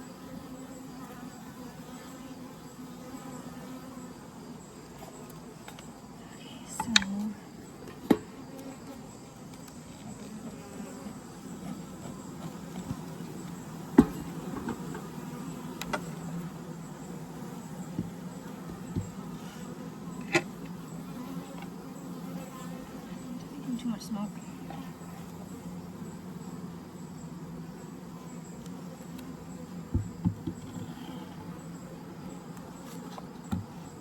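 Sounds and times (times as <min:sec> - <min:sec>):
honeybees buzzing: 0:00.0 - 0:34.0.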